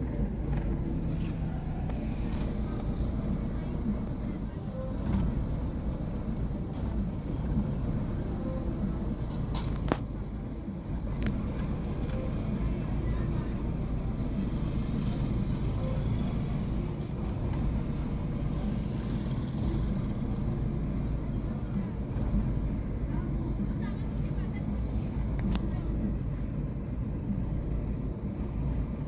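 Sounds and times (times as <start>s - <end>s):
car engine idling rough: 0.0s - 29.0s.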